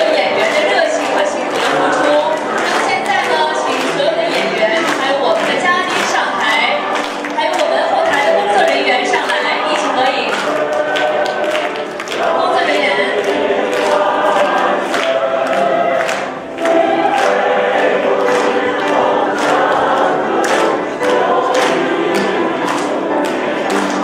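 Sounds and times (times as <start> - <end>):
choir singing: 0.0 - 7.1, 7.7 - 24.0.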